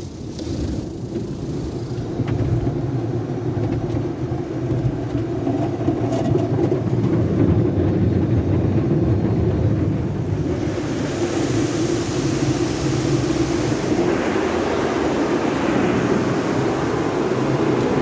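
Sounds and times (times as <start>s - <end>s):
car wash equipment rumbling: 0.0s - 18.0s.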